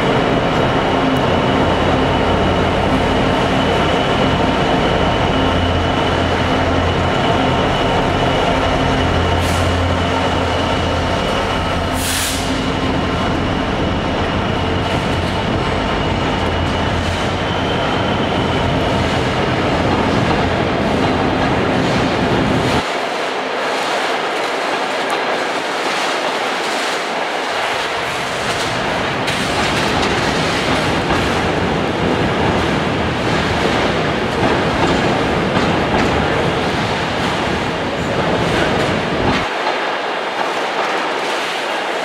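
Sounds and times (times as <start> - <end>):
diesel locomotive engine running: 0.0 - 22.9, 26.8 - 39.5
train wagons rolling by: 0.0 - 42.0.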